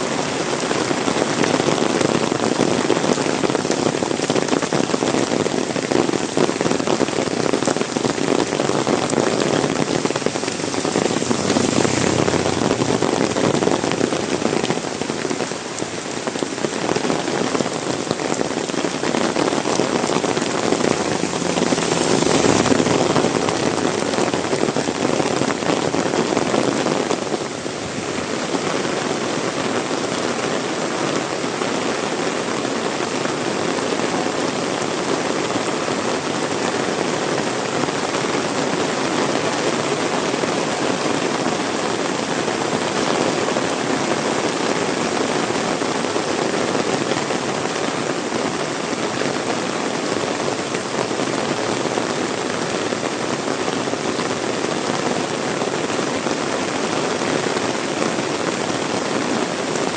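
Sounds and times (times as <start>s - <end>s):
heavy rain splashing: 0.0s - 59.9s.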